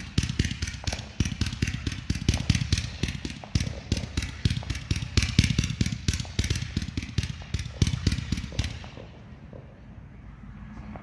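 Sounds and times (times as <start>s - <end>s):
firework cake popping: 0.0s - 9.1s.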